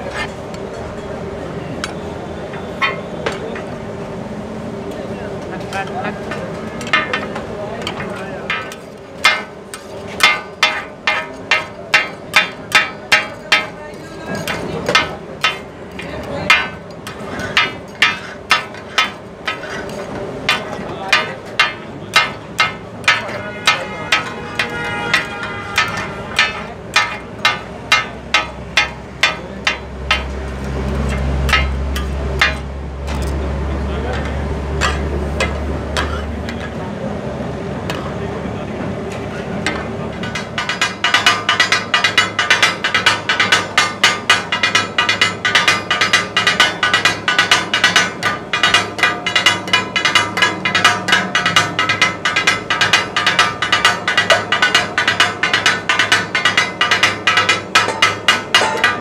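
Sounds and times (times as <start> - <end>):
chopping blades clanging on iron griddle: 5.6 - 33.4, 34.0 - 36.8, 39.1 - 59.0.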